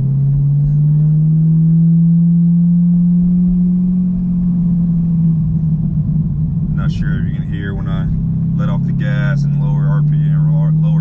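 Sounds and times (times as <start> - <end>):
car exhaust drone: 0.0 - 11.0.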